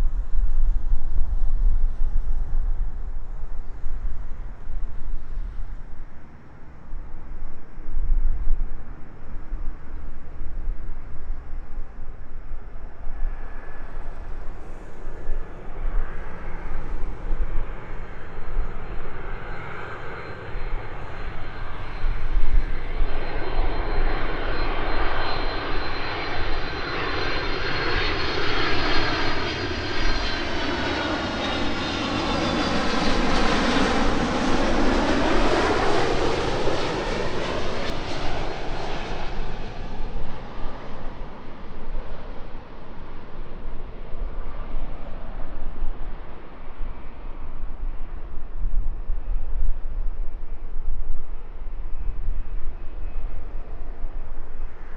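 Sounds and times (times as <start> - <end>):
jet airliner flying past: 0.0 - 54.9.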